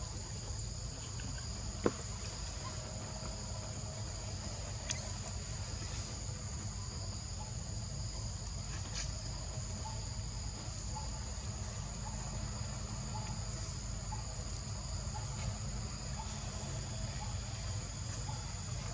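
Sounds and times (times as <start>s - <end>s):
insect chorus buzzing: 0.0s - 18.9s.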